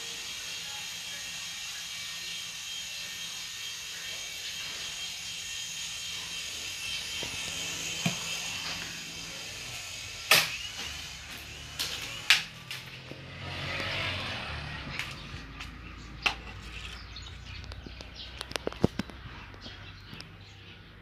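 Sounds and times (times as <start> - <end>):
toy helicopter motors whining: 0.0 - 20.3.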